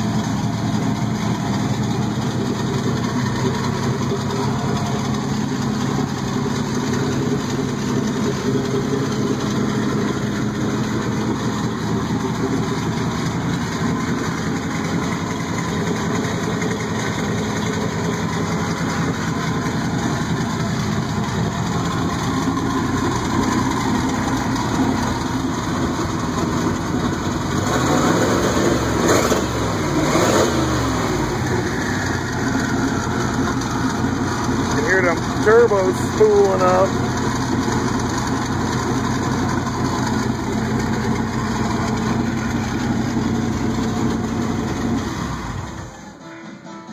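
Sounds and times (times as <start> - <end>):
car engine idling and revving: 0.0 - 46.2.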